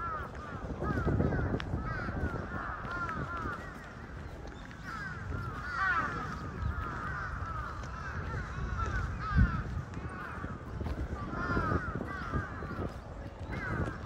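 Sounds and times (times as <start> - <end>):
flock of birds calling: 0.0 - 14.0.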